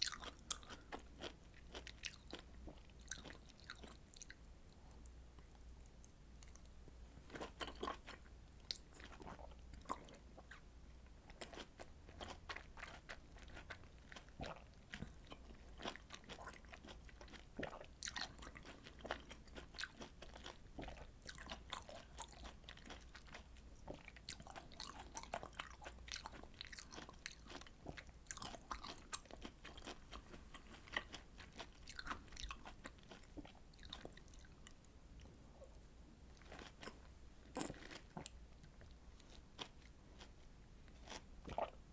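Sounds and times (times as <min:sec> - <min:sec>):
chewing juicy fruit: 0:00.0 - 0:10.7, 0:11.3 - 0:41.9
low steady hum: 0:00.0 - 0:41.9.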